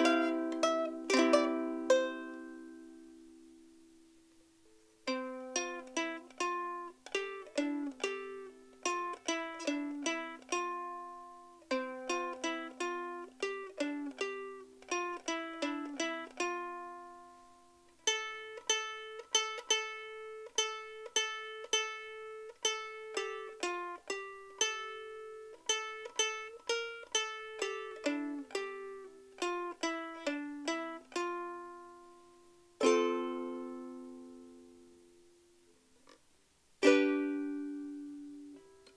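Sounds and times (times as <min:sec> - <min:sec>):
strummed ukulele chord: 0:00.0 - 0:03.6, 0:05.1 - 0:32.1, 0:32.8 - 0:35.0, 0:36.8 - 0:38.9
ukulele picked melody: 0:00.0 - 0:38.9.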